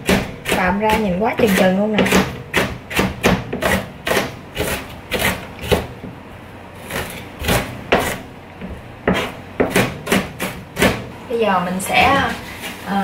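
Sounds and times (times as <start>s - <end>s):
knife chopping on plastic board: 0.0s - 6.2s, 6.8s - 11.1s.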